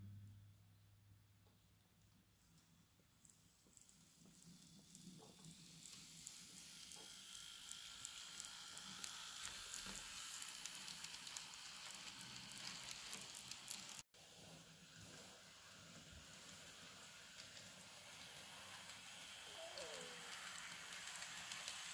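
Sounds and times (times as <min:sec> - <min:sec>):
model train wheels clicking: 0:03.3 - 0:14.0, 0:14.8 - 0:21.9.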